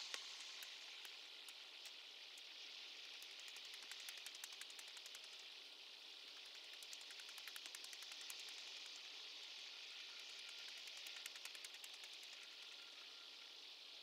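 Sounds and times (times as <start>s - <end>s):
faint steady hiss: 0.0s - 14.0s
light ticks and crackles: 0.0s - 14.0s.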